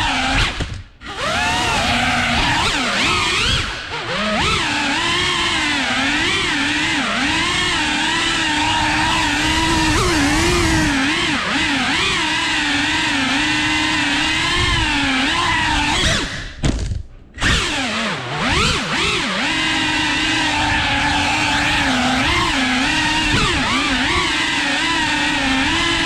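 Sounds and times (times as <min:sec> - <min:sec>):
quadcopter motors whining: 0:00.0 - 0:16.6, 0:17.4 - 0:26.0.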